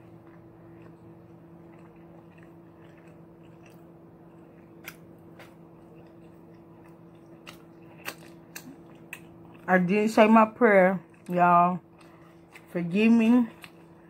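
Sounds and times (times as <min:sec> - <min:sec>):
person chewing crunchy food: 0:00.0 - 0:09.8, 0:11.0 - 0:14.0
faint steady hum: 0:00.0 - 0:14.0.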